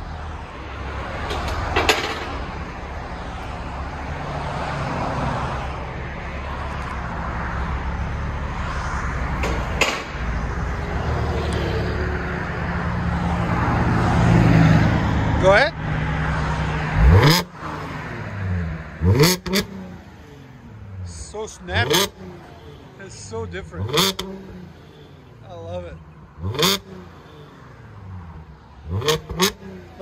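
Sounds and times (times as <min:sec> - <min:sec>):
car engine low rumble: 0:00.0 - 0:30.0.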